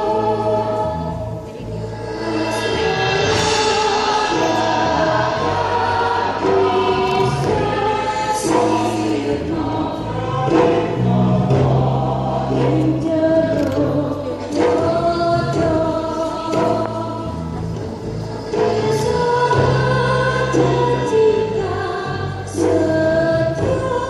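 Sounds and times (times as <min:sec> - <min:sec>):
choir singing held notes: 0:00.0 - 0:24.0.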